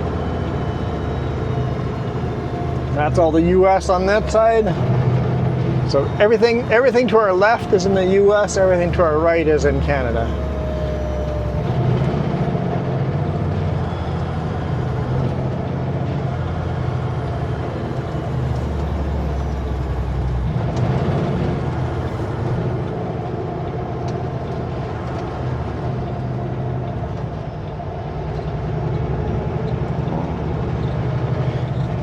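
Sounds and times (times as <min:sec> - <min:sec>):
road and wind noise: 0:00.0 - 0:32.0
truck diesel engine: 0:00.0 - 0:32.0.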